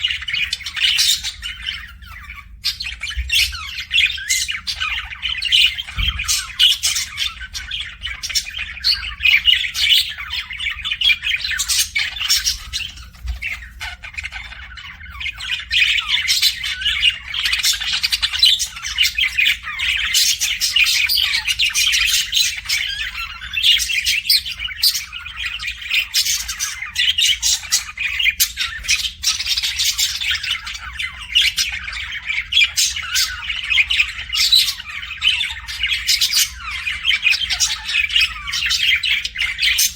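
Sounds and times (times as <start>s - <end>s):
pet birds chirping and squawking: 0.0s - 39.9s.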